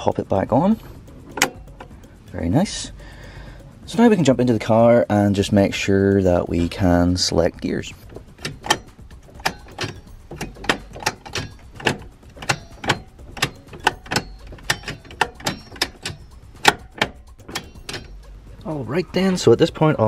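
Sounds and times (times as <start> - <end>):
gear shift linkage clicking: 0.0 - 2.9, 4.0 - 20.0.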